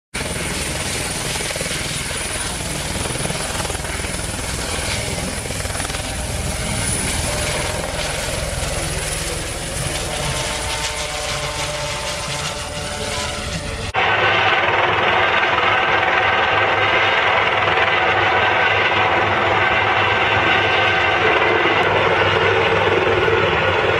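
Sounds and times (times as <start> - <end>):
helicopter lifting off: 0.2 - 23.9.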